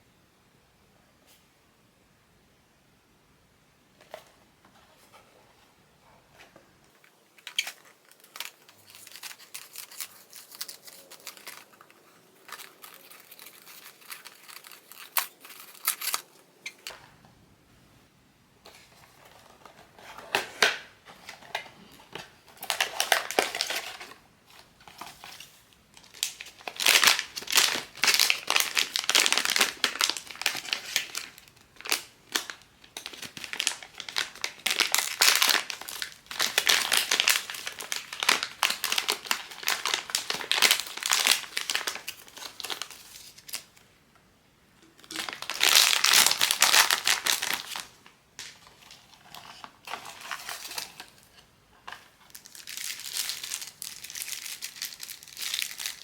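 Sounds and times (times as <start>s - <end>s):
wrapper crinkling and tearing: 7.3s - 17.0s, 19.1s - 43.8s, 44.9s - 51.3s, 51.9s - 56.0s.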